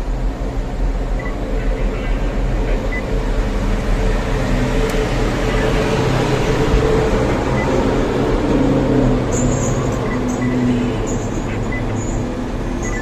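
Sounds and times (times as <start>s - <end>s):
heavy diesel machinery running: 0.0s - 13.0s.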